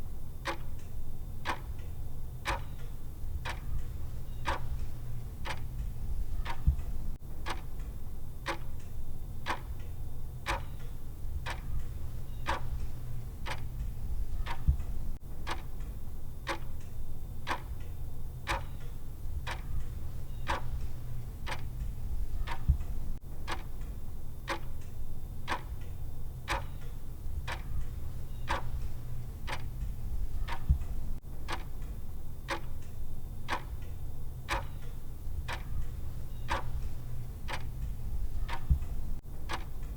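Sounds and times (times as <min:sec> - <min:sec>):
low steady hum: 0:00.0 - 0:39.9
timer clock ticking: 0:00.4 - 0:17.9, 0:18.5 - 0:39.9.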